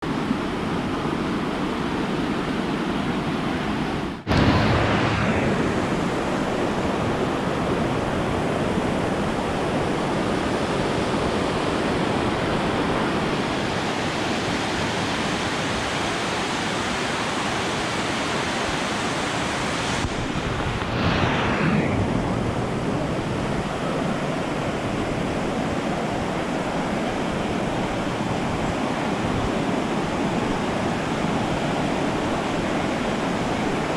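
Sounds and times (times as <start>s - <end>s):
river water rushing: 0.0s - 21.1s, 22.3s - 33.9s.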